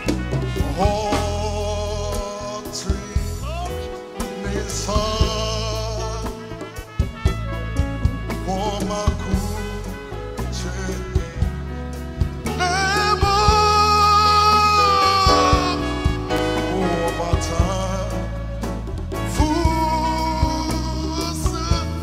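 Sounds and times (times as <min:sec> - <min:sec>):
gospel band playing: 0:00.0 - 0:22.0.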